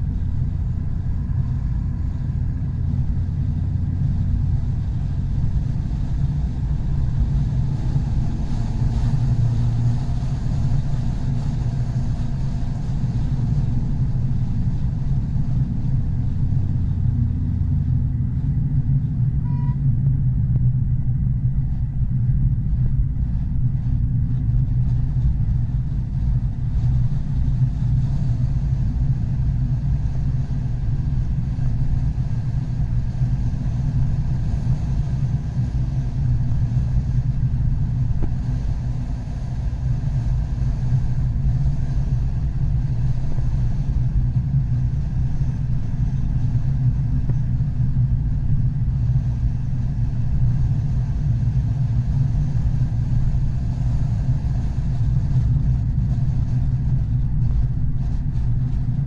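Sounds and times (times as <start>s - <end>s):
tyre and wind noise: 0.0s - 59.0s.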